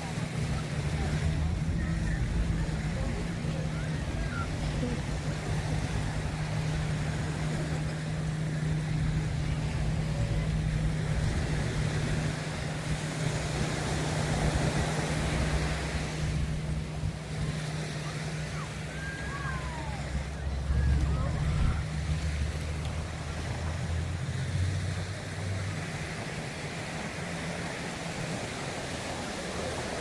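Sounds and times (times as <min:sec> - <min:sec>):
distant voices: 0:00.0 - 0:30.0
low engine hum: 0:00.0 - 0:30.0
street noise: 0:00.0 - 0:30.0
surf: 0:00.0 - 0:30.0.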